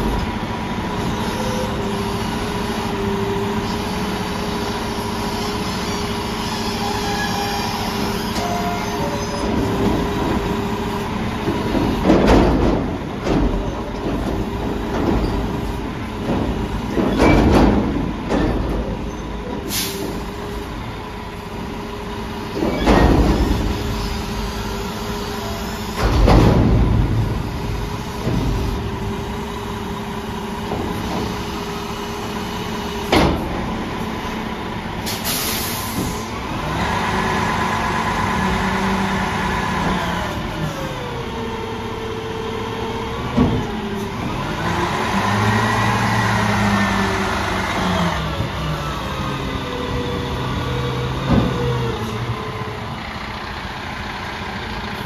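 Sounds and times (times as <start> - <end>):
garbage truck diesel engine: 0.0 - 55.0
hydraulics whining: 0.0 - 55.0.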